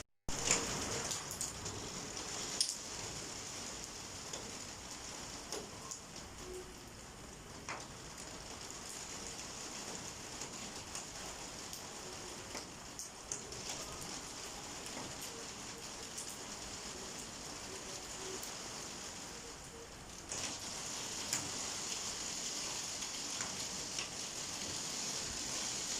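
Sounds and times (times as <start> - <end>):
heavy rain falling: 0.3 - 25.9
raindrops ticking on a surface: 0.3 - 25.9.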